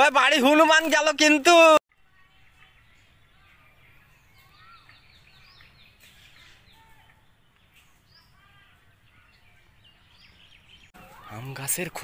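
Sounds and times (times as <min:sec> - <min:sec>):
faint birdsong: 0:01.9 - 0:12.0.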